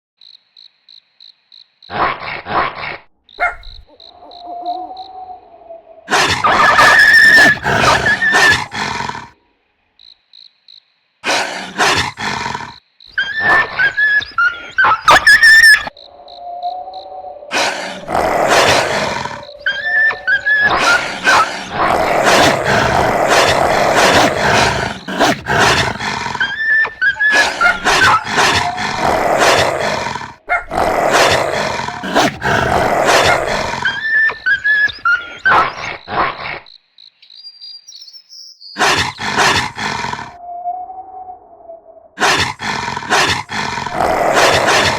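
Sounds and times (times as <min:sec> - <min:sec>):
animal roaring and growling: 0:01.9 - 0:09.4, 0:11.2 - 0:36.7, 0:38.8 - 0:44.9.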